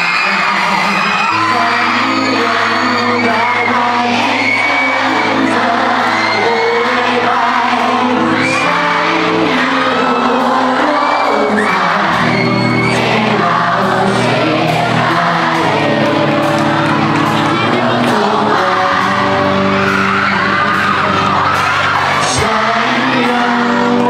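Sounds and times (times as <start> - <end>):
bass guitar: 0.0 - 24.0
drums: 0.0 - 24.0
electric guitar: 0.0 - 24.0
man singing into a microphone: 0.0 - 24.0.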